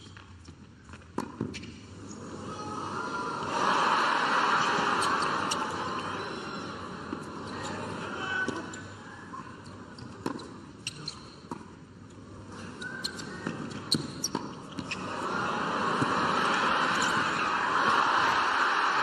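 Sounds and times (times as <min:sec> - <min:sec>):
crowd noise: 0:02.0 - 0:11.6, 0:12.2 - 0:19.0.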